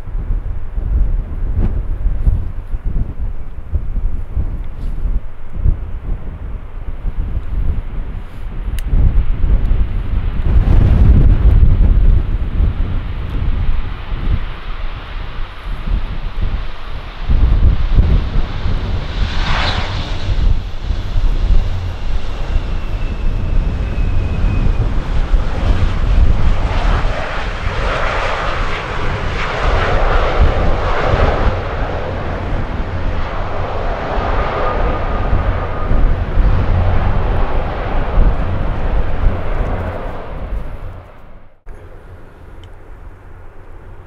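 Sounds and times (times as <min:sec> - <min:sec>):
jet airliner engine roar: 0:00.0 - 0:44.0
wind rumble on microphone: 0:00.0 - 0:44.0.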